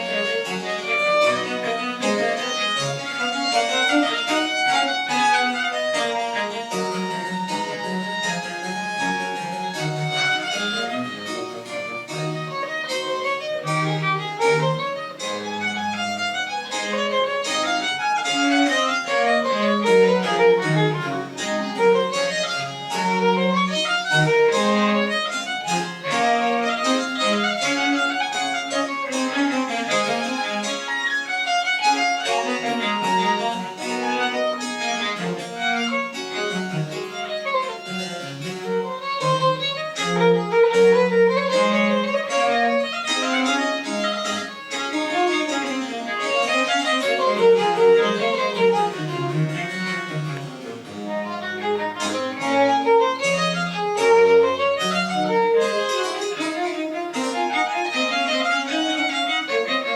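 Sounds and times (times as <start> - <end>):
violin playing quick lines: 0.0 - 59.9.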